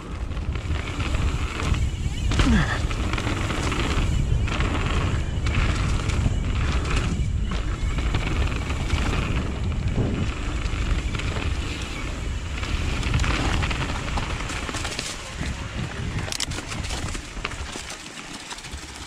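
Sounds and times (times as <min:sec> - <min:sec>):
wind rushing over microphone: 0:00.0 - 0:17.9
bike rolling over dirt trail: 0:00.0 - 0:19.0.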